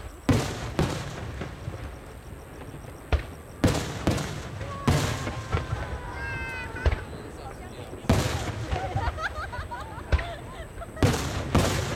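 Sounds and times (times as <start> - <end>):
firework shells bursting: 0.0 - 11.9.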